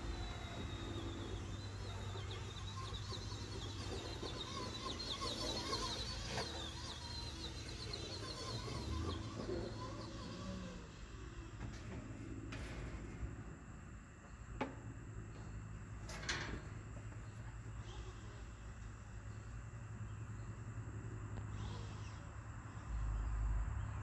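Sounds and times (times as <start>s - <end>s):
birds chirping trills: 0.0s - 24.0s
steady low hum: 0.0s - 24.0s.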